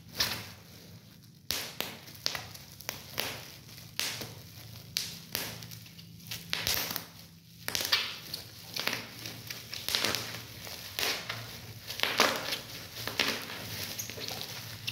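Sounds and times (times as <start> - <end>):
bubble wrap crinkling and popping: 0.0 - 14.9.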